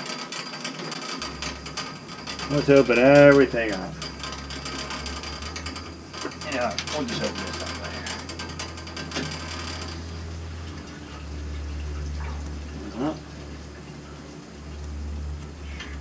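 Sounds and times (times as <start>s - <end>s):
water rushing through pipes: 0.0s - 16.0s
steady low hum: 0.9s - 16.0s.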